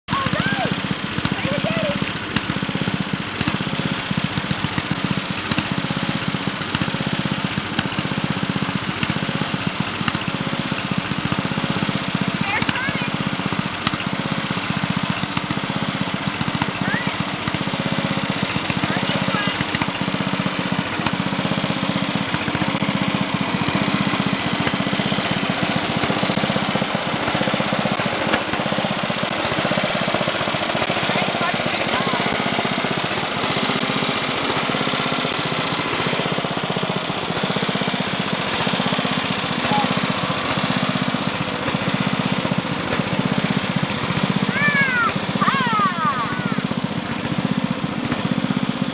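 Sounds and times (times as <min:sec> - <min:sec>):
lawn mower engine running: 0:00.0 - 0:48.9.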